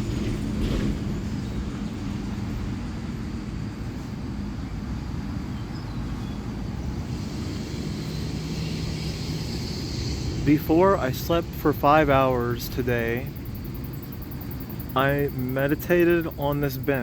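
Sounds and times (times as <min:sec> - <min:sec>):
low steady hum: 0:00.0 - 0:17.0
low vehicle rumble: 0:00.0 - 0:17.0.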